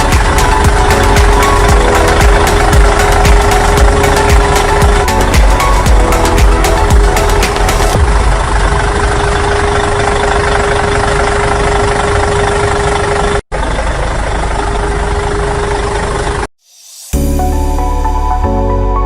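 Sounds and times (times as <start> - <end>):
mechanical running noise with whine: 0.0 - 16.5.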